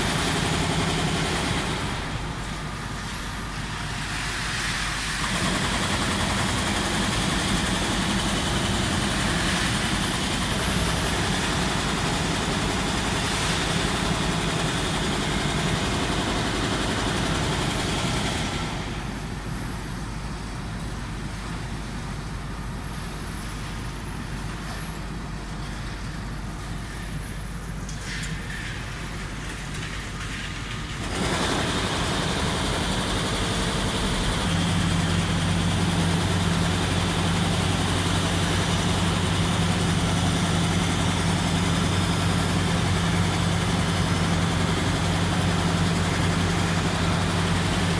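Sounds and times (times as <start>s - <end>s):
heavy vehicle engine running: 0.0s - 47.9s.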